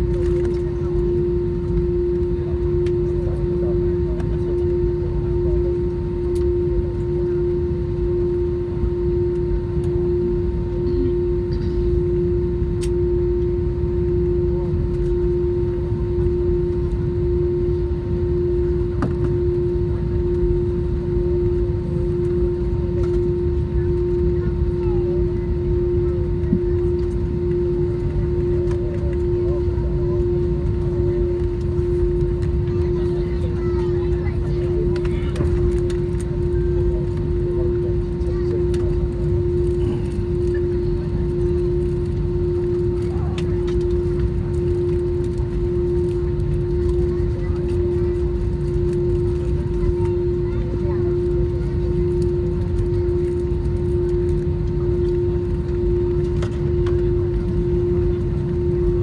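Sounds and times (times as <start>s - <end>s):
aircraft cabin rumble and hum: 0.0s - 59.0s.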